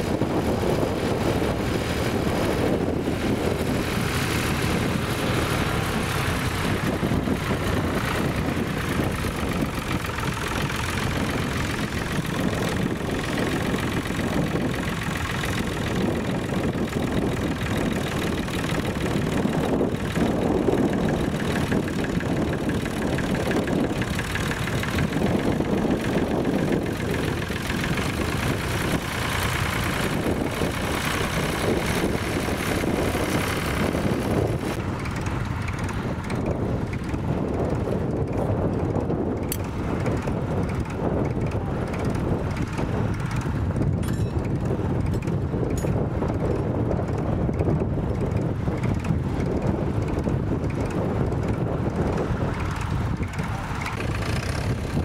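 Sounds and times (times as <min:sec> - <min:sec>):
diesel tractor engines running: 0:00.0 - 0:55.0
wind rumbling on microphone: 0:00.0 - 0:55.0.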